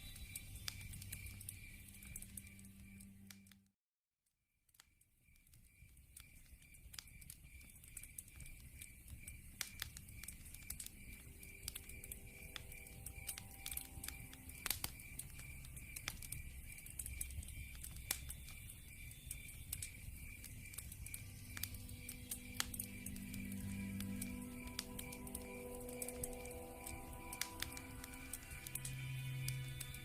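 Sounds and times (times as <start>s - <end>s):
insect chirping: 0.0s - 3.3s, 4.9s - 30.0s
wood fire crackling: 0.0s - 3.5s, 5.2s - 30.0s
low rumble of flame: 5.8s - 30.0s.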